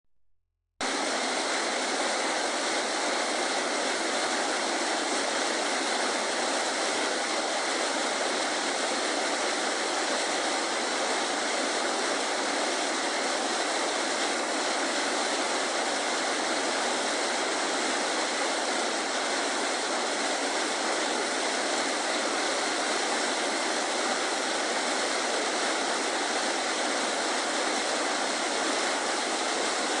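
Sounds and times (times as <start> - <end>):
creek water rushing: 0.8 - 30.0.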